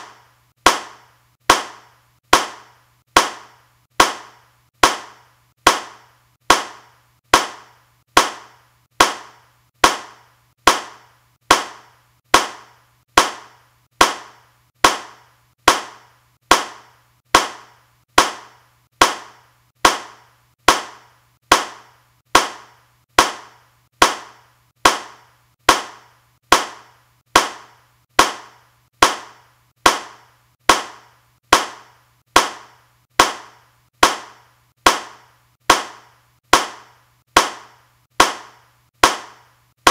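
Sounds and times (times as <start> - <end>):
hand clap: 0.0 - 39.9.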